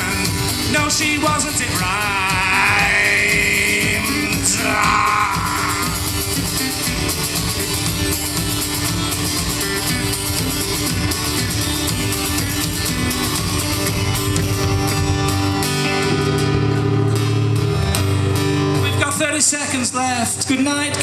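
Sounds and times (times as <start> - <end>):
live band playing instrumental: 0.0 - 19.5
strummed guitar: 0.0 - 21.0.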